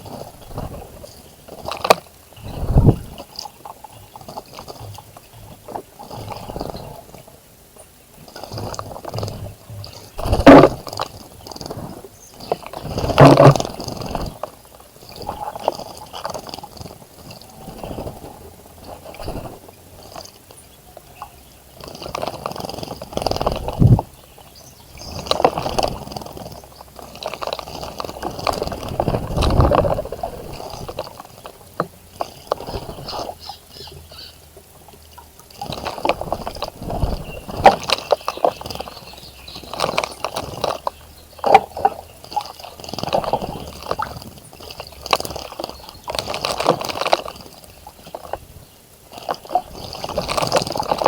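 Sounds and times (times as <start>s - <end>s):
birds splashing water: 0.0s - 51.0s.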